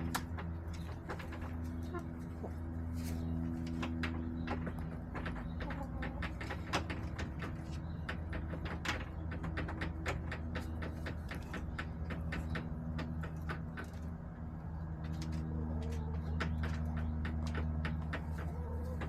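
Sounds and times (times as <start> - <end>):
chickens pecking: 0.0 - 19.0.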